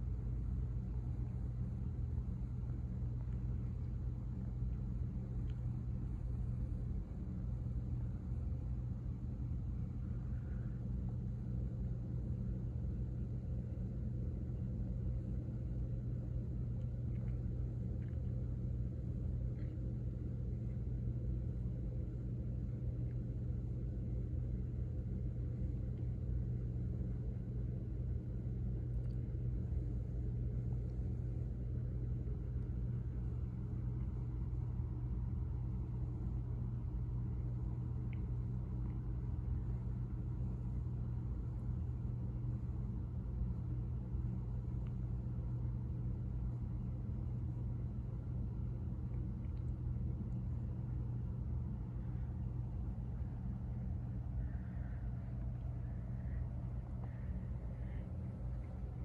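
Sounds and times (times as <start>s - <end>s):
low hum: 0.0s - 59.0s
low rumble: 0.0s - 59.0s.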